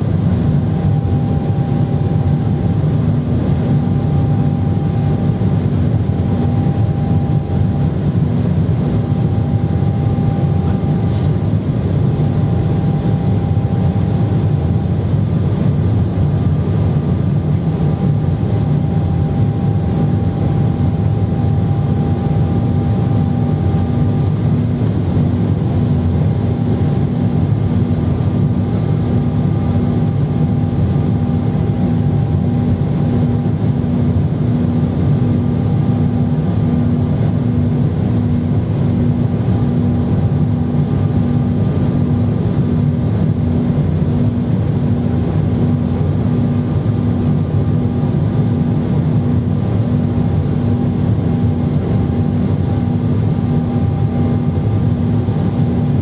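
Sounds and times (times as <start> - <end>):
airplane cabin drone: 0.0 - 56.0
faint high engine whine: 0.0 - 56.0.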